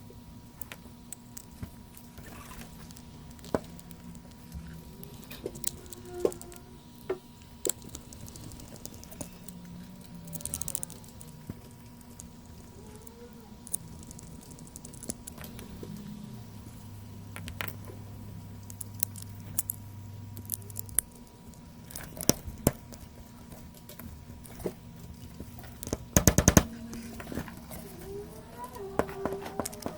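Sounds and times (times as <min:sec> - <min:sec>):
steady low hum: 0:00.0 - 0:29.9
small hard objects clicking: 0:00.6 - 0:16.0, 0:17.3 - 0:18.0, 0:18.6 - 0:27.8.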